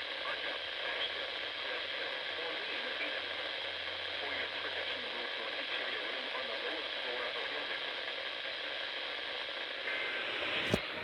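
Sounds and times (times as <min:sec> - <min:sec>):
faint broadcast voice: 0:00.0 - 0:11.0
radio static hiss: 0:00.0 - 0:11.0.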